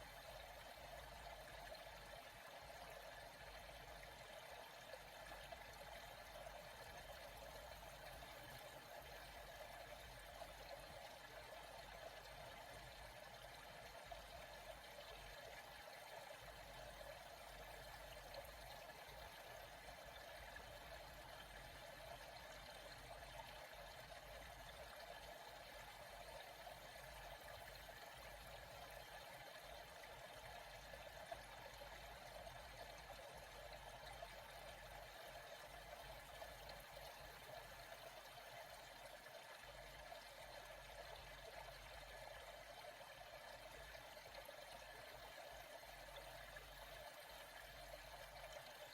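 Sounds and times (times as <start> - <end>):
faint flowing water: 0.0 - 48.9.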